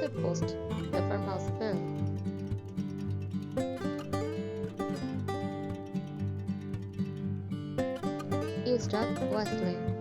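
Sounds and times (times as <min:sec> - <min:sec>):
acoustic guitar strummed: 0:00.0 - 0:10.0.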